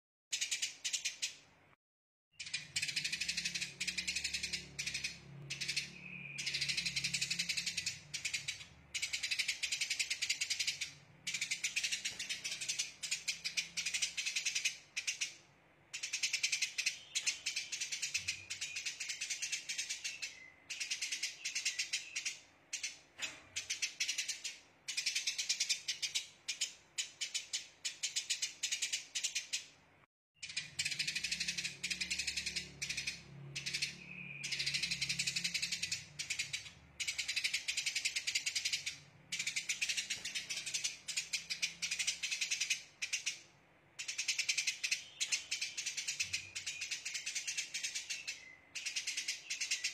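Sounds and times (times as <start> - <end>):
sparrow chattering: 0.3 - 1.5, 2.4 - 29.8, 30.4 - 49.9.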